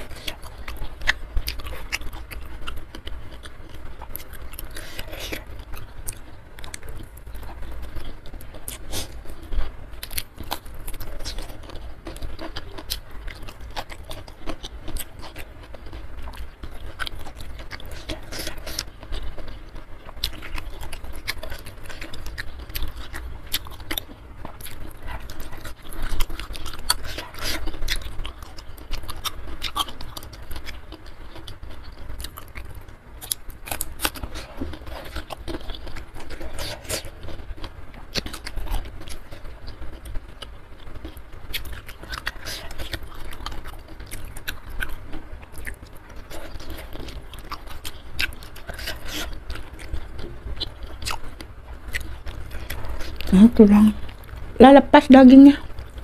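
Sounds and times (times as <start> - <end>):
chewing: 0.0 - 54.6.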